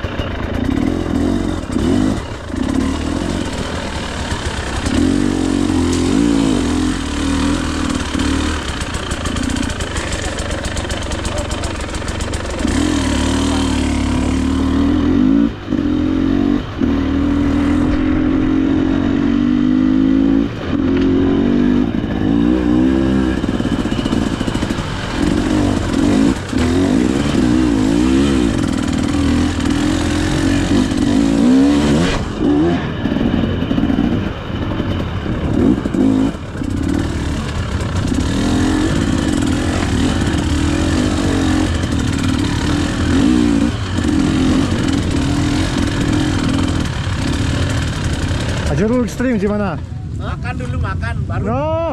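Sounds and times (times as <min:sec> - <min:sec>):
dirt bike engine revving: 0:00.0 - 0:49.7.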